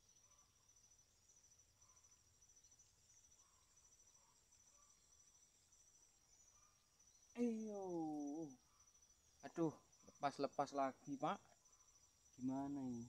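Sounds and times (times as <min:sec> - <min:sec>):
insect chirping trill: 0:00.0 - 0:13.0.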